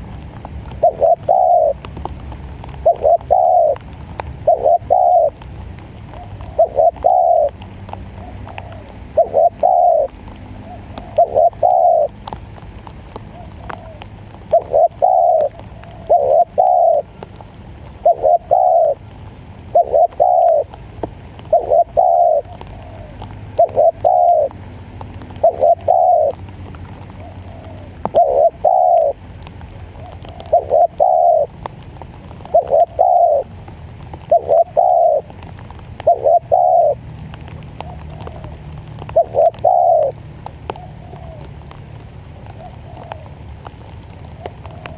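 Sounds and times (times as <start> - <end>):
dove cooing: 0.0 - 2.0, 2.6 - 44.9.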